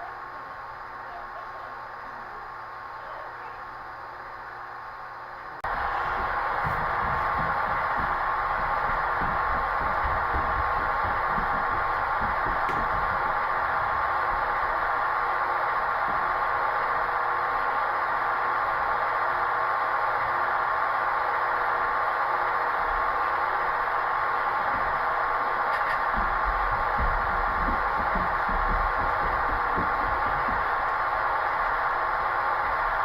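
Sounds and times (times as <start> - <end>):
model train running: 0.0 - 33.0.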